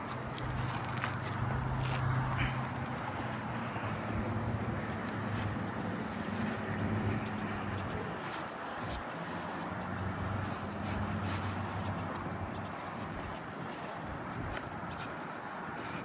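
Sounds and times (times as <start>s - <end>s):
outdoor noise: 0.0s - 16.0s.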